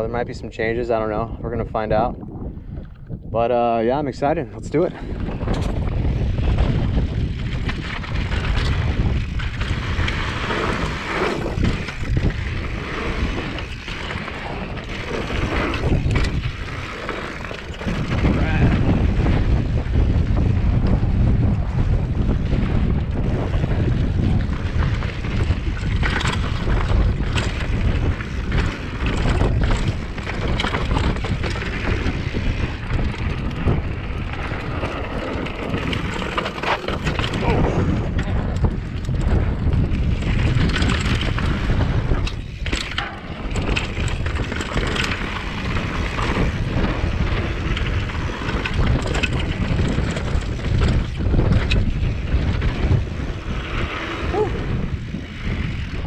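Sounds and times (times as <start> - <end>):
wind buffeting microphone: 0.0 - 56.0
bike knocks and rattles: 5.0 - 56.0
tyres rolling over dirt: 5.4 - 56.0.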